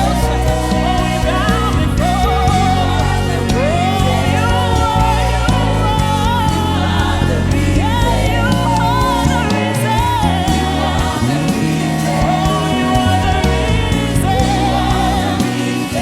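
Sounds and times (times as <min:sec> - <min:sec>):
choir singing: 0:00.0 - 0:16.0
keyboard bass and drums: 0:00.0 - 0:16.0
lead singer: 0:00.0 - 0:16.0.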